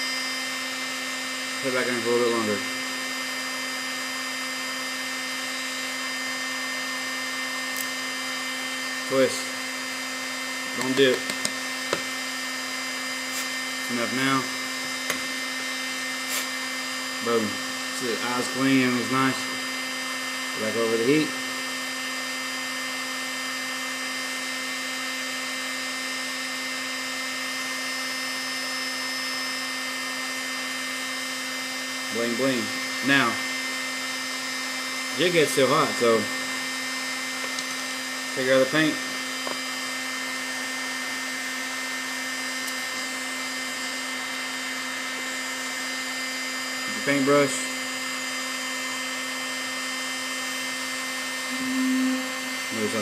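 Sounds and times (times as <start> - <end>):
heat gun running: 0.0 - 53.0.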